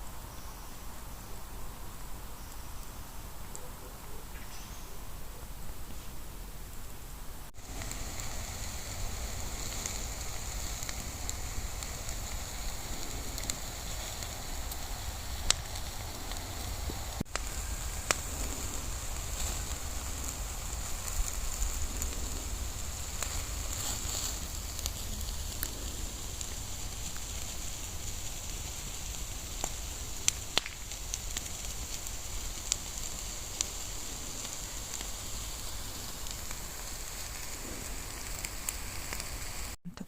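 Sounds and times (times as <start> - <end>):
bonfire crackling: 0.0 - 4.2, 5.0 - 39.8
fire popping: 5.6 - 40.0.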